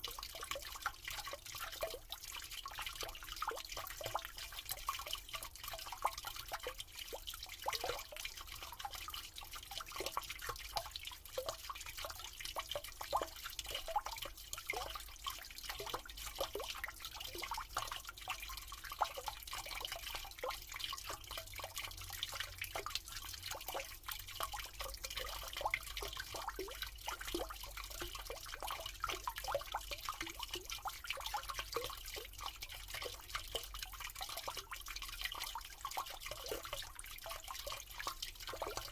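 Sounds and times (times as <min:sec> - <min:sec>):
bubbly drips and plinks: 0:00.0 - 0:38.9
water trickling down a drain: 0:00.0 - 0:38.9.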